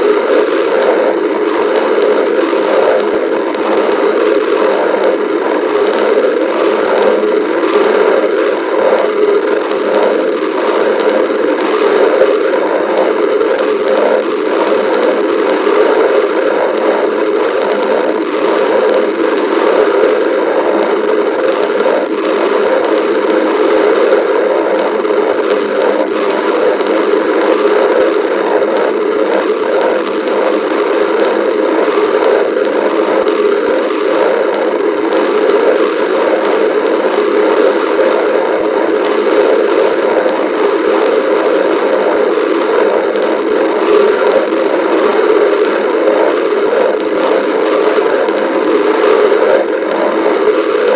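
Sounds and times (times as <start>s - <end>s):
stomach growling and gurgling: 0.0s - 50.9s.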